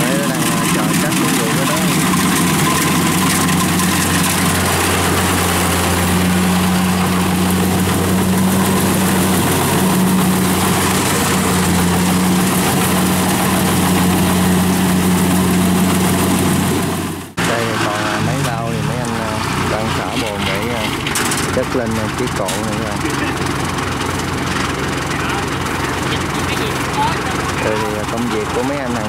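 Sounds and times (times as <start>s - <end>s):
combine harvester engine drone: 0.0s - 29.0s.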